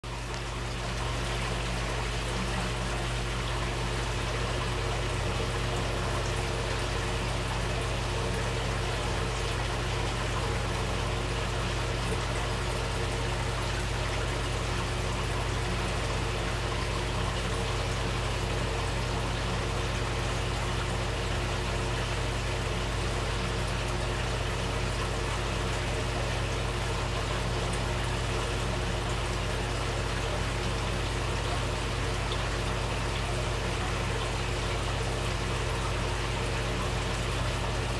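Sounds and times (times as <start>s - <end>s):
low steady hum: 0.0s - 37.9s
water trickling into tub: 0.0s - 37.9s.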